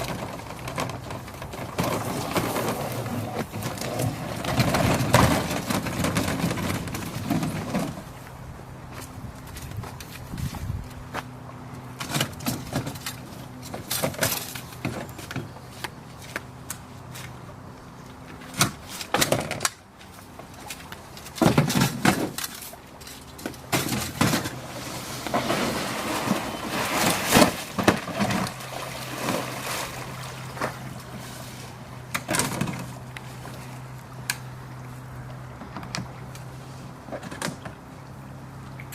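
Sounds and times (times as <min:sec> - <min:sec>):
knocks and scraping of boat parts: 0:00.0 - 0:38.9
steady low hum: 0:00.0 - 0:38.9.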